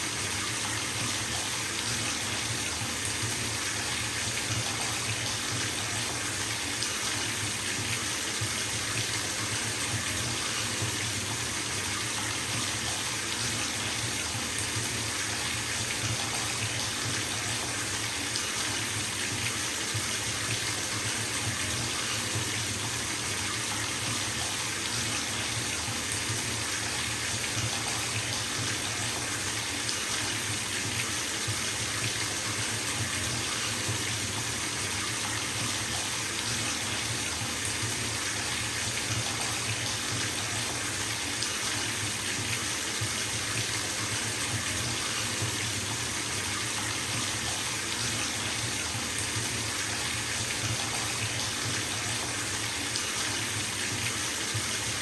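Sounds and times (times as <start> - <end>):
water gushing into tub: 0.0 - 55.0
bathtub tap running: 0.2 - 55.0.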